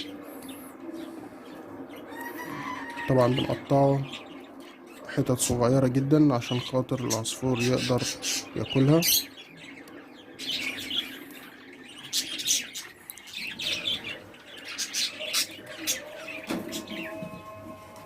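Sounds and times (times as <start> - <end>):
small birds chirping: 0.0 - 17.6.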